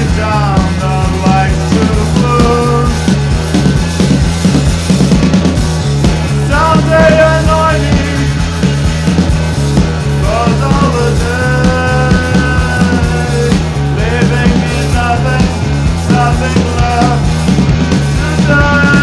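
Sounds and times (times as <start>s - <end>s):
bass line: 0.0s - 19.0s
drums: 0.0s - 19.0s.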